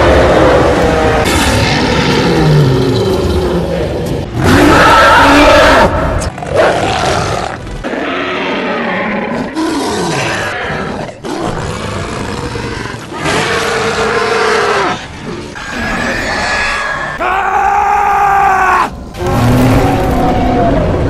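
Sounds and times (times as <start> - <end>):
monster roars and snarls: 0.0 - 21.0.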